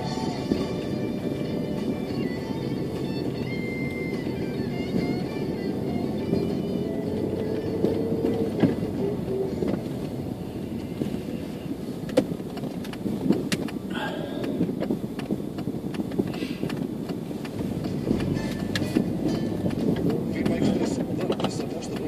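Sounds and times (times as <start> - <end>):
car engine: 0.0 - 22.0
road noise inside car: 0.0 - 22.0.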